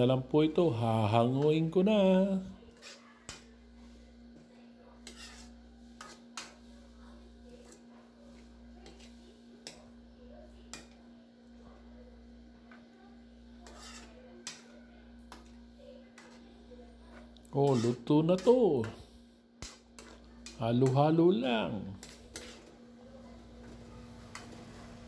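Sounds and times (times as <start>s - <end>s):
spatula scraping a wok: 0.6s - 10.0s, 10.6s - 11.1s, 11.7s - 25.0s.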